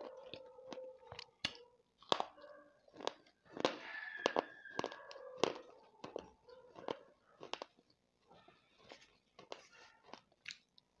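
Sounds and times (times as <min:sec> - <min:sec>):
crunchy chewing clicks: 0:00.0 - 0:11.0.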